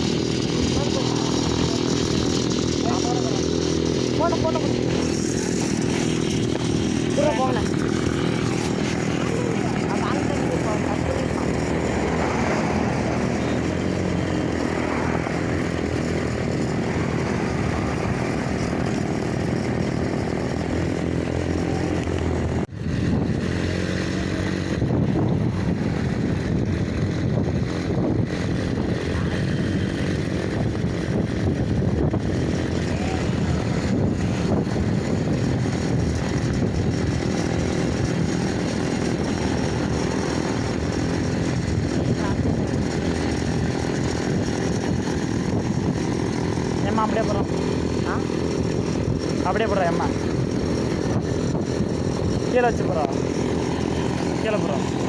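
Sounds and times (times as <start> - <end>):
mini bike engine running: 0.0 - 55.0.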